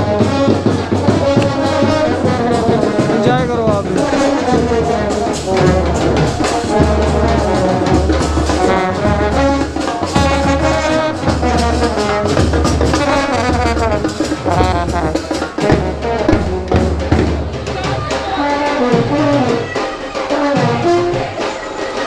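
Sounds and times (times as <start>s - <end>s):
steady drumbeat: 0.0s - 22.0s
trumpets and trombones playing: 0.0s - 22.0s.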